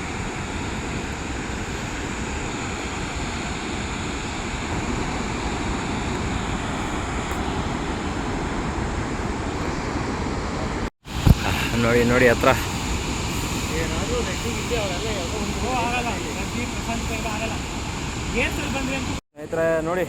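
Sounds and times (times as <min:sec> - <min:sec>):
waterfall roaring: 0:00.0 - 0:19.2.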